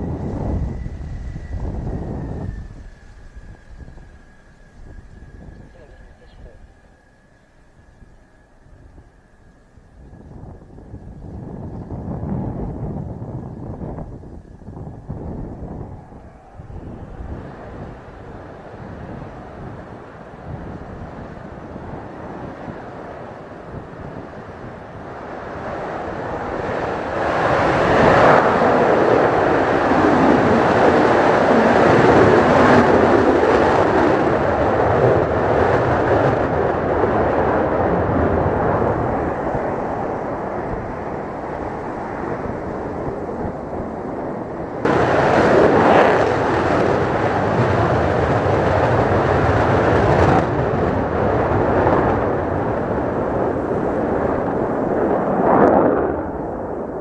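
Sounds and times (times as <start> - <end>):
fighter jet engine roar: 0.0 - 57.0.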